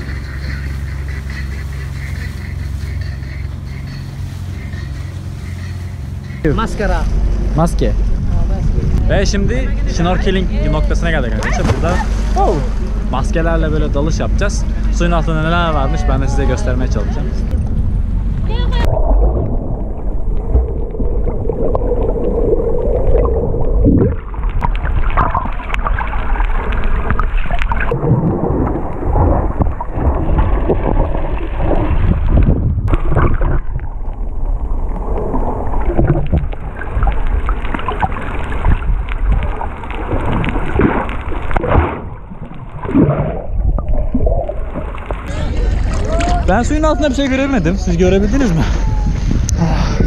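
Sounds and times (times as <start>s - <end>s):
muffled underwater water rumble: 0.0s - 50.0s
water sloshing and bubbling: 0.0s - 50.0s.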